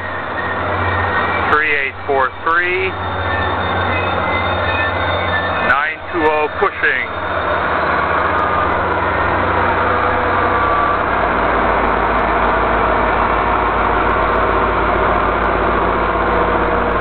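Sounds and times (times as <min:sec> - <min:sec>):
locomotive engine droning: 0:00.0 - 0:17.0
passenger cars rolling past: 0:00.0 - 0:17.0.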